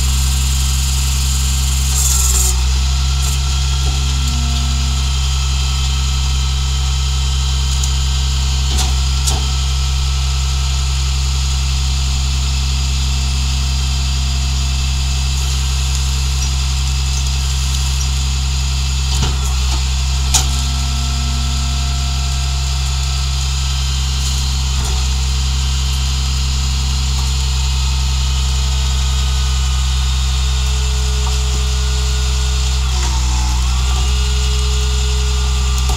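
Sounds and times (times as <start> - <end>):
garbage truck engine idling: 0.0 - 35.9
hydraulic whine: 0.0 - 35.9.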